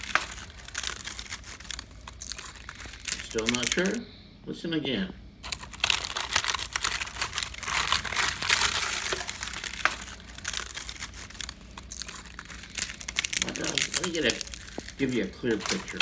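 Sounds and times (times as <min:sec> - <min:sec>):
termites crackling in wood: 0:00.0 - 0:04.0, 0:05.4 - 0:16.0.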